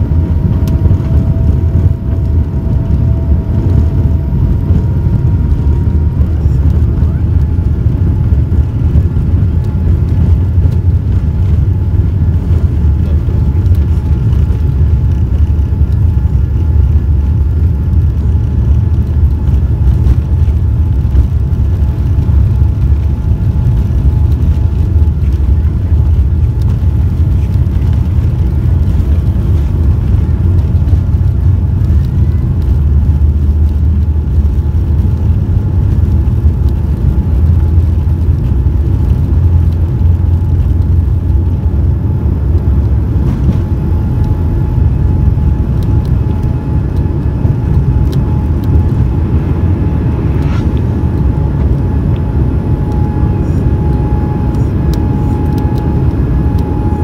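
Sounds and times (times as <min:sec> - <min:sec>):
faint steady whine: 0:00.0 - 0:57.0
jet engines rumbling: 0:00.0 - 0:57.0.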